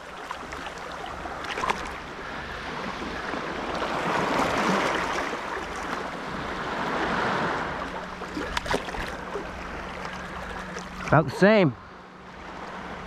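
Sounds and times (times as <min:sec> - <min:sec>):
waves splashing against rocks: 0:00.0 - 0:11.7.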